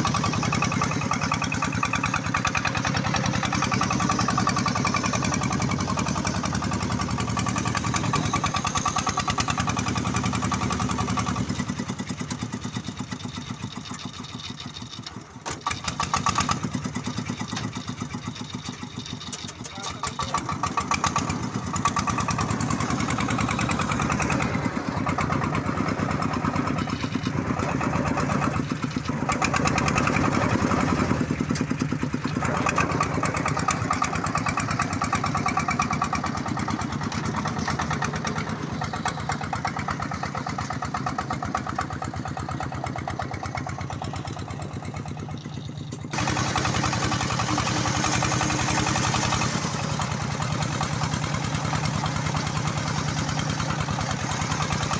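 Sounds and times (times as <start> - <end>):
single-cylinder diesel engine running: 0.0 - 54.9.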